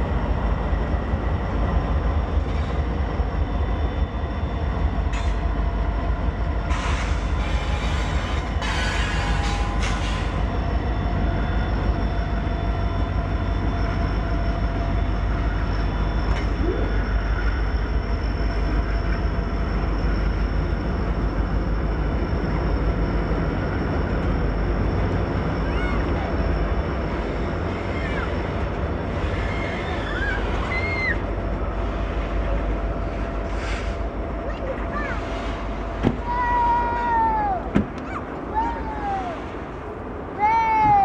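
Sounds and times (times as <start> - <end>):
freight train rumbling past: 0.0 - 41.0
high train squeals: 0.0 - 41.0.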